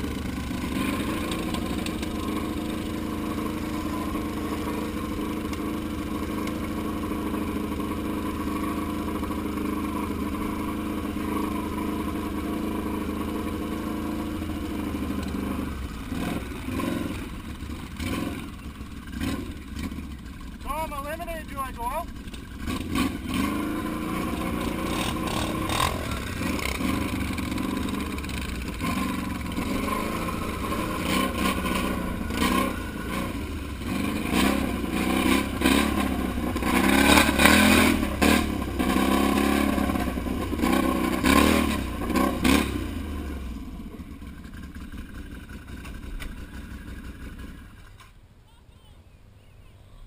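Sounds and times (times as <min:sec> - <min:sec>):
quad bike engine revving: 0:00.0 - 0:48.1.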